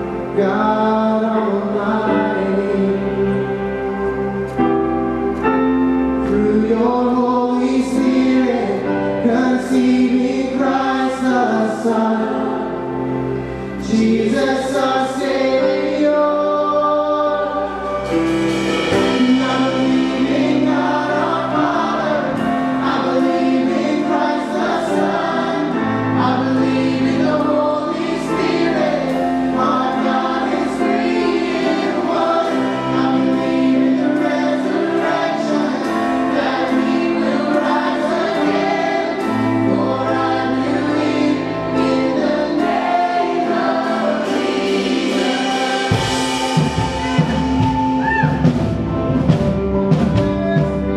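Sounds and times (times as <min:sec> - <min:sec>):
congregation singing: 0:00.0 - 0:49.4
band playing guitars and keyboard: 0:00.0 - 0:50.9.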